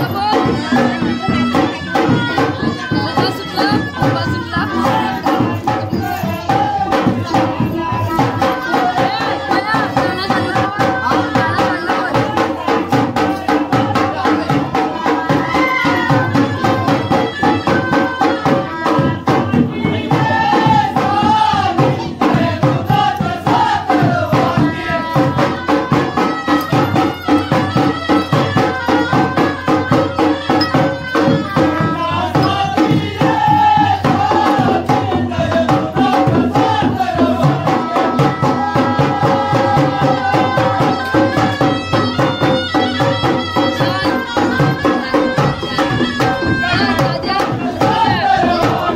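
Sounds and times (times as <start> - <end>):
hand drum: 0.0 - 48.9
jingling percussion: 0.0 - 48.9
person singing: 0.0 - 48.9.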